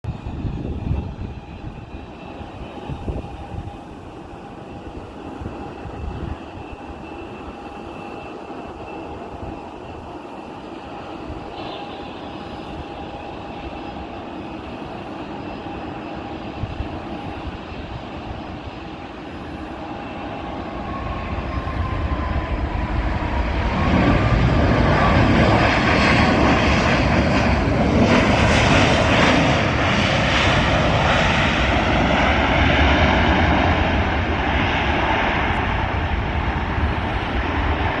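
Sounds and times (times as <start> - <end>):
jet aircraft engine noise: 0.0 - 38.0
falling engine whine: 0.1 - 38.0.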